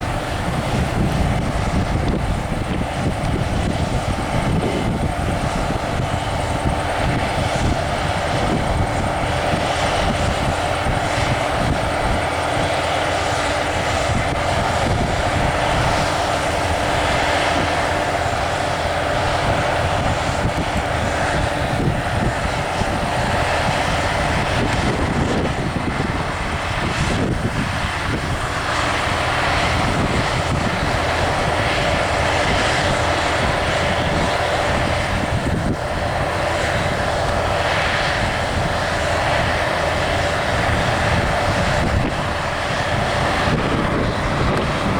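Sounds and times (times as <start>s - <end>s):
combine harvester droning: 0.0s - 44.9s.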